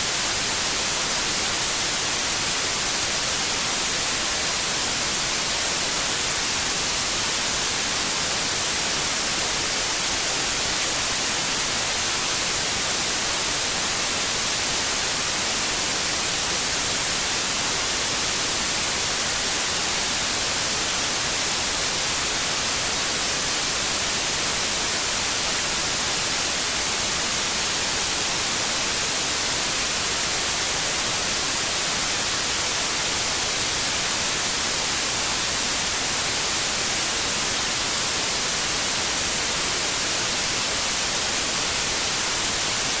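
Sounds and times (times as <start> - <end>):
white noise hiss: 0.0 - 43.0.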